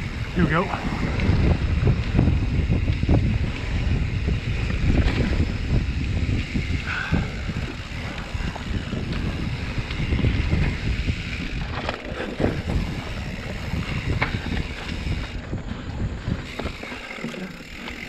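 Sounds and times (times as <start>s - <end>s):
wind buffeting microphone: 0.0s - 18.0s
bike knocks and rattles: 0.9s - 18.0s.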